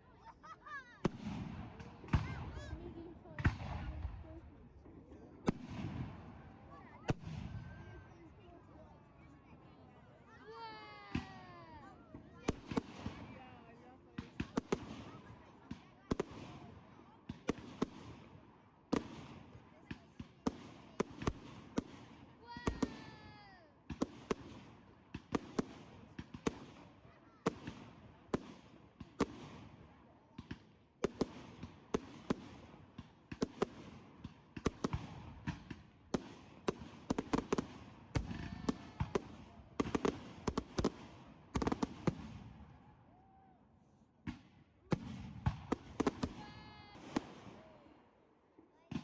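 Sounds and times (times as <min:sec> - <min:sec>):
fireworks bangs and crackle: 0:00.6 - 0:08.4, 0:10.2 - 0:42.8, 0:44.2 - 0:47.8.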